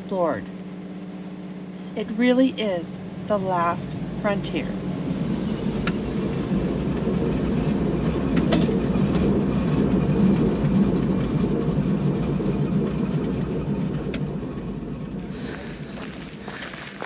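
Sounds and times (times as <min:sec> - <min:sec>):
propeller engine droning: 0:00.0 - 0:17.0.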